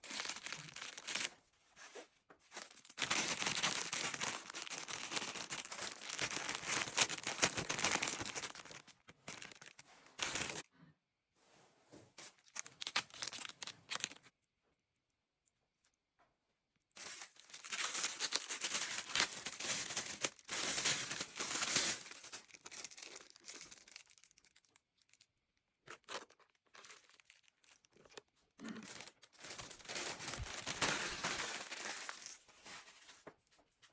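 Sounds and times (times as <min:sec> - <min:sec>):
plastic packaging crinkling and tearing: 0:00.0 - 0:01.3, 0:02.6 - 0:10.6, 0:12.2 - 0:14.3, 0:17.0 - 0:33.2.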